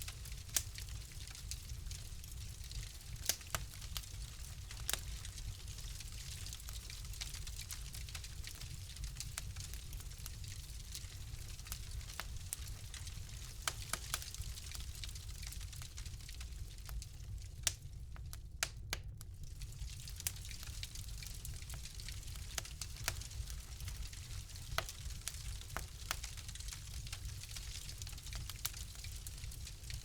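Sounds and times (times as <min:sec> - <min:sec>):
fire crackling and popping: 0:00.0 - 0:30.0.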